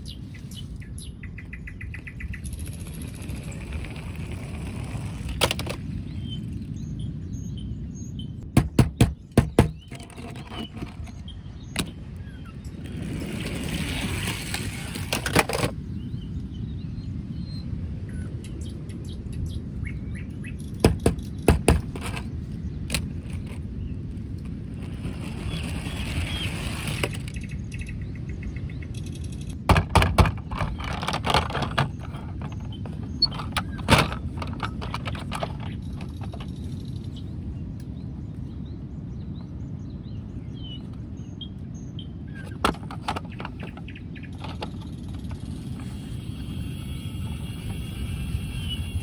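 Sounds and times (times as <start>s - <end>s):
low outdoor background hum: 0.0s - 49.0s.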